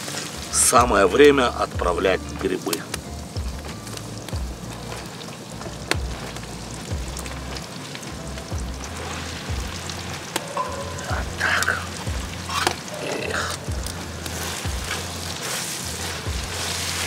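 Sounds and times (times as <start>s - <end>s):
mushrooms sizzling in oil: 0.0s - 17.0s
soft background music: 0.0s - 17.0s.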